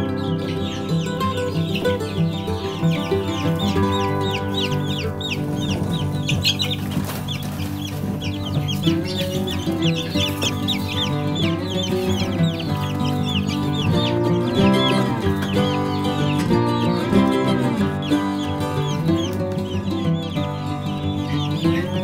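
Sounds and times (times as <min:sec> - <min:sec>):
baby chicks peeping: 0:00.0 - 0:22.0
background music: 0:00.0 - 0:22.0.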